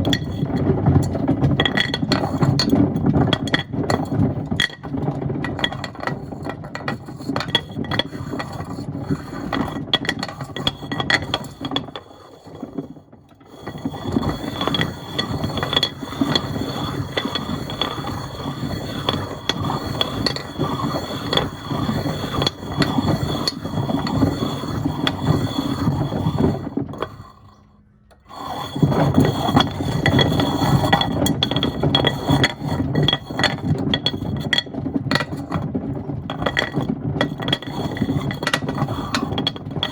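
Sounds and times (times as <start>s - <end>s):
stones clattering in washing drum: 0.0s - 27.3s, 28.4s - 39.9s.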